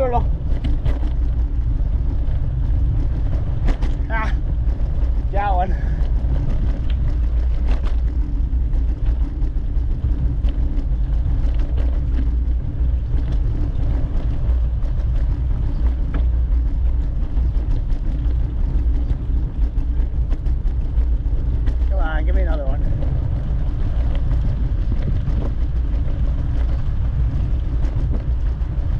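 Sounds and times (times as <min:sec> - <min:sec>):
faint bicycle clicks and ticks: 0:00.0 - 0:28.9
wind rumble on microphone: 0:00.0 - 0:28.9.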